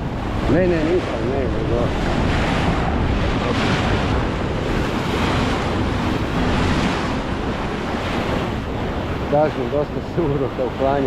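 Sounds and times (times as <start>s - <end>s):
sea waves: 0.0s - 11.0s
wind buffeting microphone: 0.0s - 11.0s.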